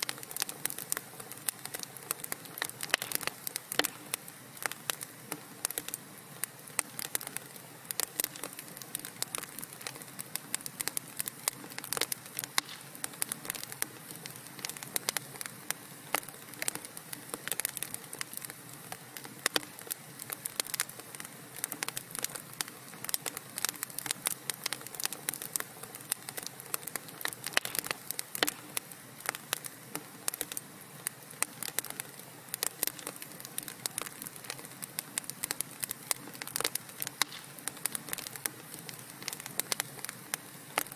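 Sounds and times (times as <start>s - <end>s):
soft steady hiss: 0.0s - 40.9s
wood fire pops and snaps: 0.0s - 40.9s.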